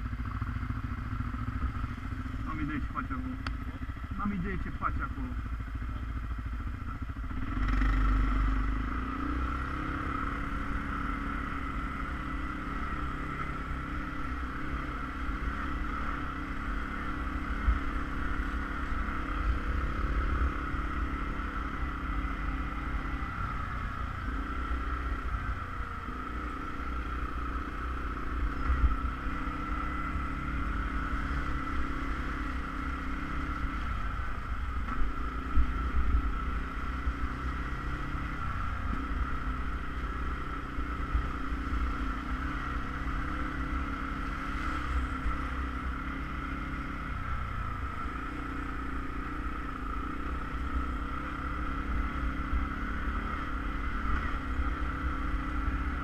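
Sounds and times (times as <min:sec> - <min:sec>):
engine running with low rumble: 0:00.0 - 0:56.0.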